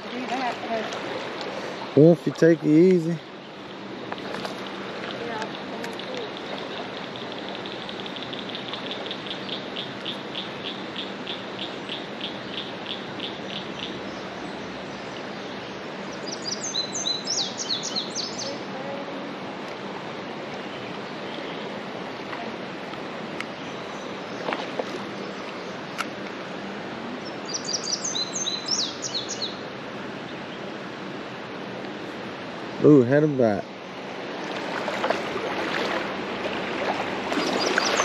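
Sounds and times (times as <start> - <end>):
birds singing: 0.0 - 18.7, 20.5 - 26.2, 27.2 - 31.1, 34.8 - 38.0
river water flowing: 0.0 - 38.0.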